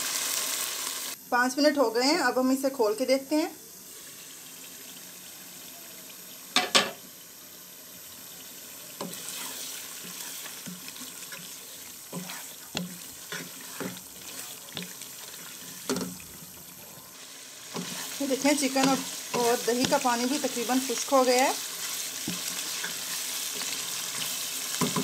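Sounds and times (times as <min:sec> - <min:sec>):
gravy bubbling and sizzling: 0:00.0 - 0:25.0.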